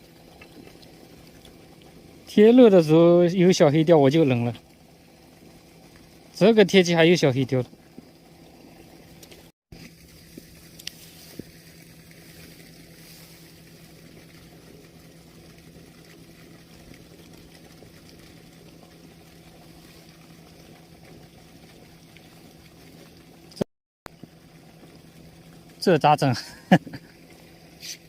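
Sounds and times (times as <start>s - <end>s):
low even hum: 0.0s - 28.0s.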